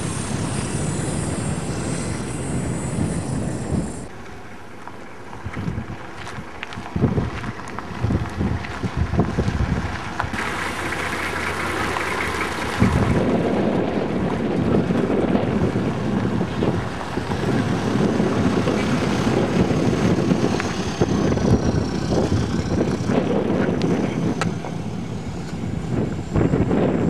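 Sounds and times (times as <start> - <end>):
wind buffeting microphone: 0.0 - 4.1, 5.3 - 27.0
engines rumbling: 0.0 - 27.0
tyres rolling on dirt road: 0.0 - 27.0.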